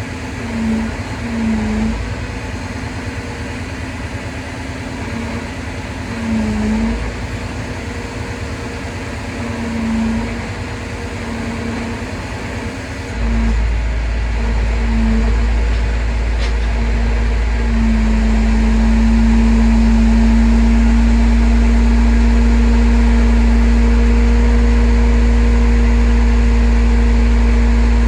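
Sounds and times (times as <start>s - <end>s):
short humming tone: 0.0s - 28.0s
truck engine running: 0.0s - 28.0s
deep rumble: 4.9s - 28.0s.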